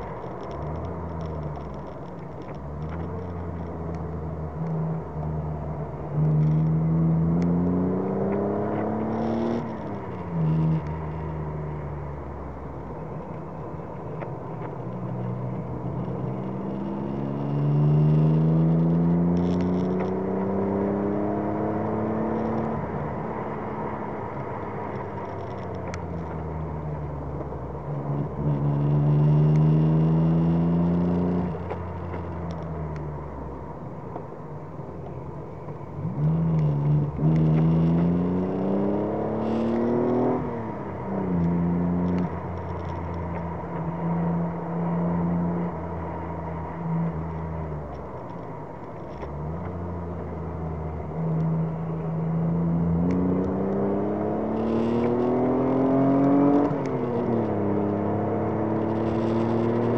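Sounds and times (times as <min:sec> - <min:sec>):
car engine revving: 0:00.0 - 0:34.9, 0:35.7 - 0:59.9.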